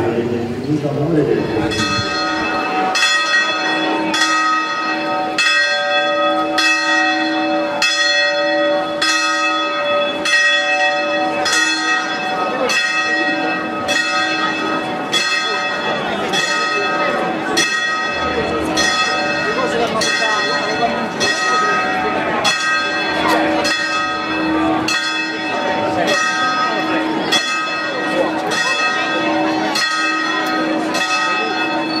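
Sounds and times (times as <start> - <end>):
church bells ringing: 0.0 - 32.0.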